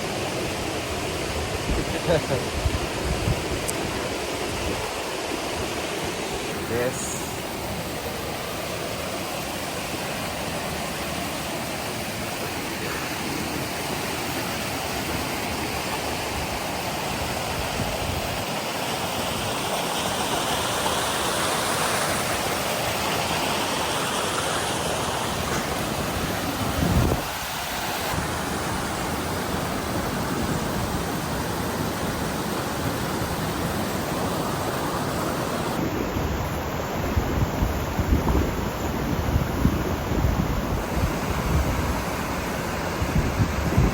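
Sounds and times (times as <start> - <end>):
flowing water rushing: 0.0 - 43.9.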